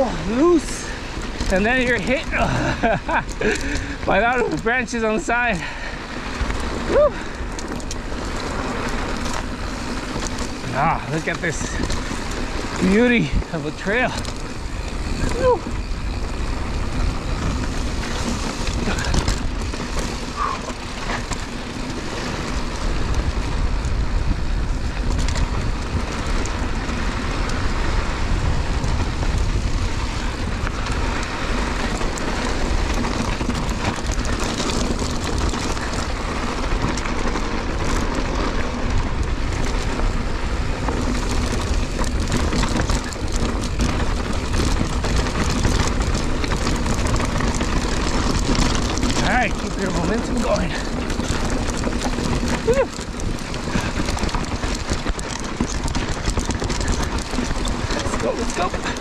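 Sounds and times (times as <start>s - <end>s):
bike rattling clicks: 0.0s - 59.0s
tyres crunching over gravel: 0.0s - 59.0s.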